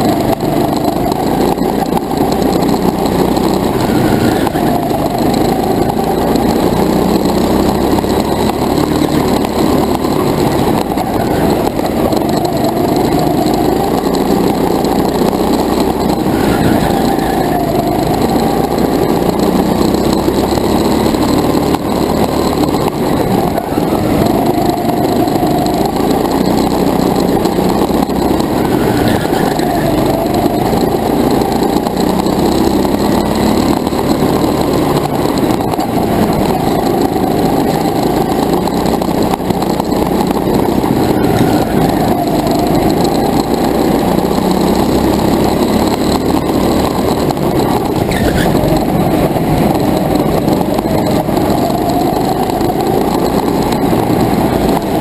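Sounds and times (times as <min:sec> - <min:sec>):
go-kart motor revving: 0:00.0 - 0:55.0.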